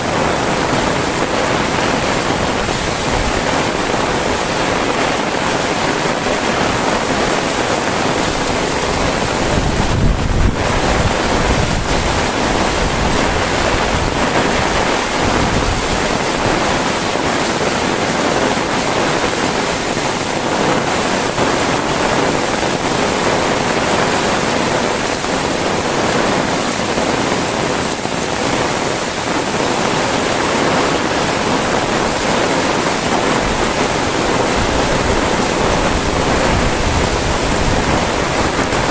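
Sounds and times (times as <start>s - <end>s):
heavy rain: 0.0s - 38.9s
wind buffeting microphone: 0.0s - 38.9s.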